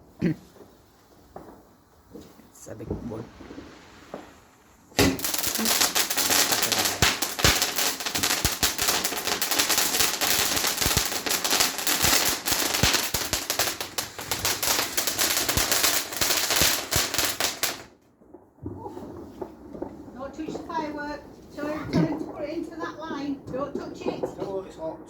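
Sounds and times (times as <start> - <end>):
firework crackling: 0.0 - 25.0.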